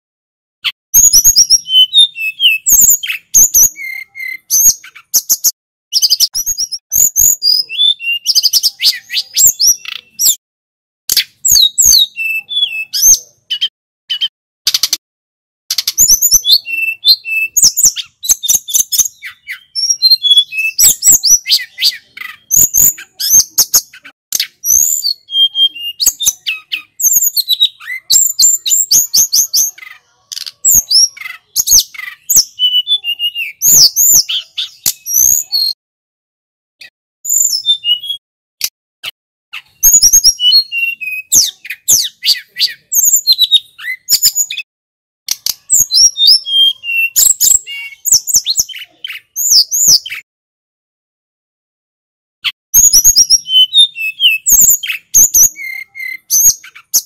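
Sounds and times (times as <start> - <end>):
bird singing whistles and trills: 1.0 - 10.4, 11.1 - 15.0, 15.7 - 35.8, 36.8 - 38.2, 39.6 - 44.7, 45.3 - 50.3, 52.8 - 57.0.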